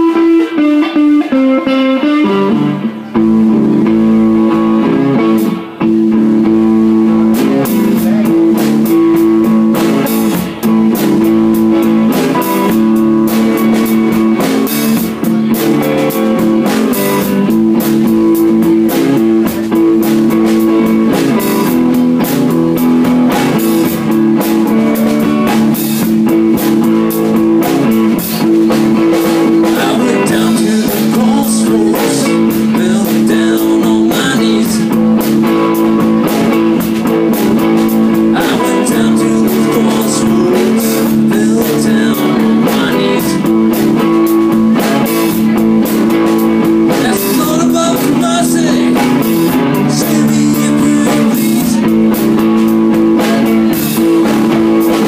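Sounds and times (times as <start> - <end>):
electric guitar blues riff: 0.0 - 55.0
drum kit with cymbal and snare: 3.1 - 55.0.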